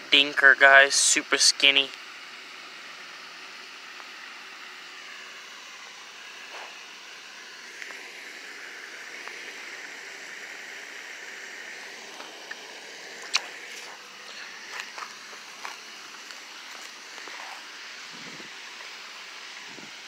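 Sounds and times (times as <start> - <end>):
outdoor night hiss: 0.0 - 20.0.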